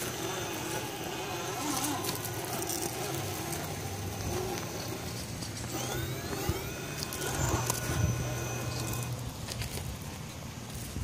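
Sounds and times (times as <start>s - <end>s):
electric motor whining: 0.0s - 11.0s
tyres scraping on rock: 0.0s - 11.0s.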